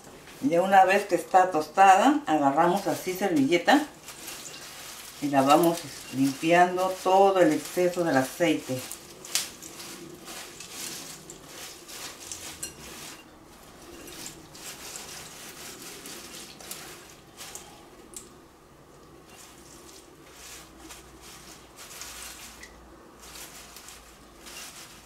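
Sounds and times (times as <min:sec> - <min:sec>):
paper towel rustling: 0:02.4 - 0:18.0, 0:19.2 - 0:25.0.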